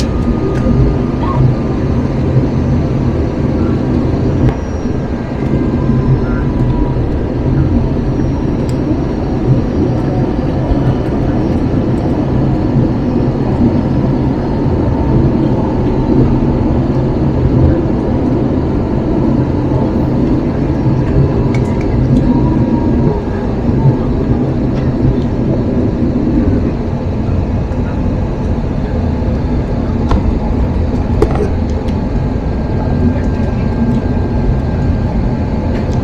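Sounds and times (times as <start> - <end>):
airplane cabin engine rumble: 0.0 - 36.0.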